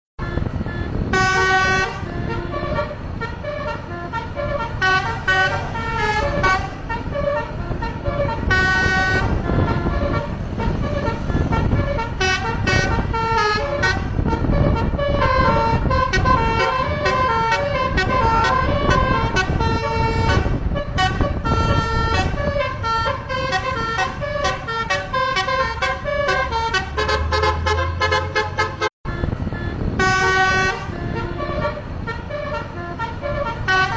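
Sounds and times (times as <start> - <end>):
bus multi-tone horn melody: 0.2 - 33.9.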